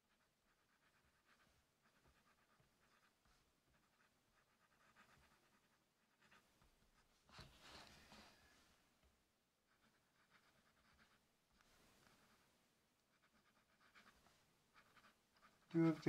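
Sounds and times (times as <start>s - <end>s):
fountain pen scratching on paper: 0.0s - 8.1s, 9.7s - 12.5s, 13.1s - 16.0s.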